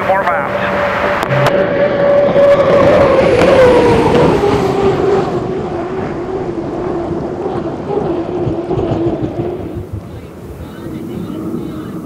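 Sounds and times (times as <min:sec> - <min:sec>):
turbine engine whining: 0:00.0 - 0:12.0.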